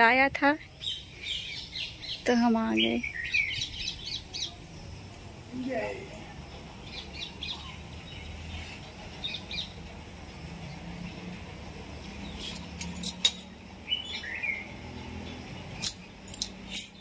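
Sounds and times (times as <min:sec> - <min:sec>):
birds chirping: 0:00.0 - 0:11.4, 0:12.0 - 0:17.0.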